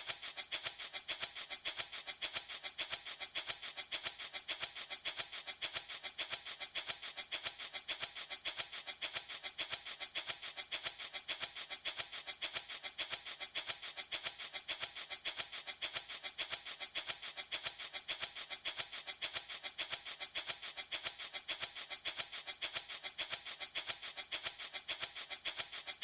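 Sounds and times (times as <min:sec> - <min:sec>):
rattle shaken rhythmically: 0:00.0 - 0:26.0.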